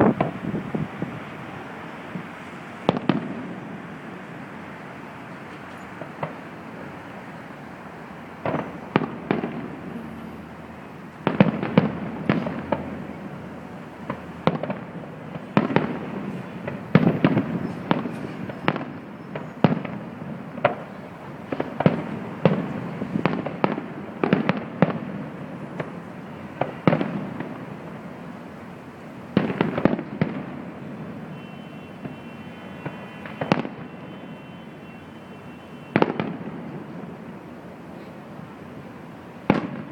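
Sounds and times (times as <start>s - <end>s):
steady background noise: 0.0s - 39.9s.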